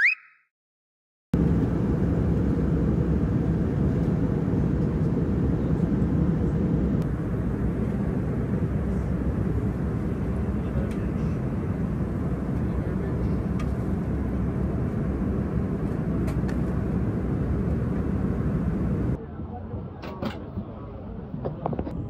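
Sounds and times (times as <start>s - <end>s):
airliner cabin noise: 1.4s - 22.0s.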